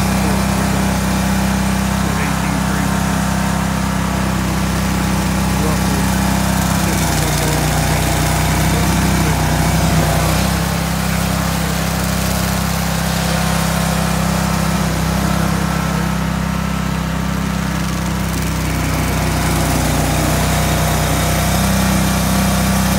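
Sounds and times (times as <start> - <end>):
gasoline engine running: 0.0 - 22.9.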